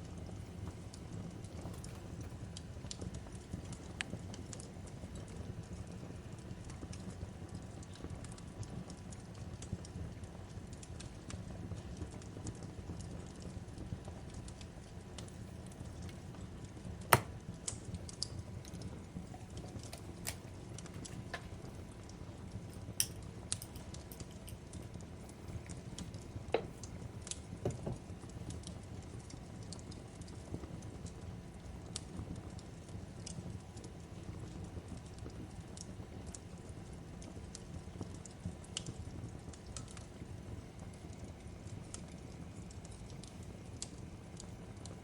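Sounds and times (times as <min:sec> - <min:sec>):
fireplace crackling: 0:00.0 - 0:45.0.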